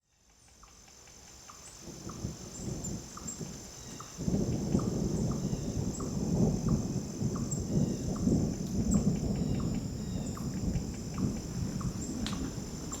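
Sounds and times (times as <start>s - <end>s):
thunder rumbling: 1.9s - 13.0s.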